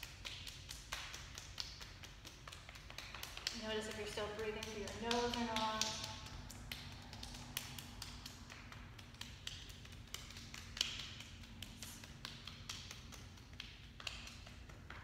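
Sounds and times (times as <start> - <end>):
hands patting body: 0.0 - 15.0.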